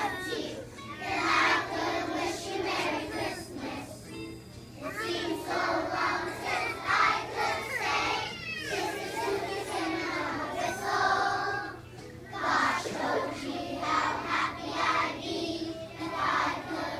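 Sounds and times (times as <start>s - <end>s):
children's choir singing: 0.0s - 16.9s.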